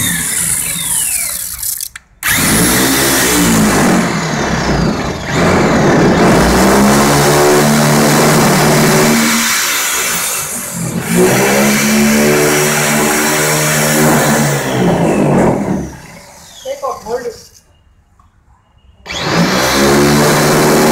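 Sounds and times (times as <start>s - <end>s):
power metal cutter cutting steel: 0.0s - 17.3s, 19.1s - 20.9s.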